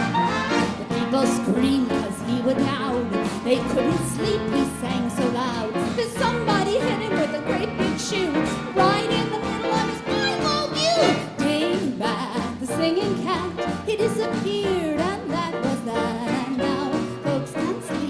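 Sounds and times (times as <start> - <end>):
big band dance orchestra: 0.0 - 18.0.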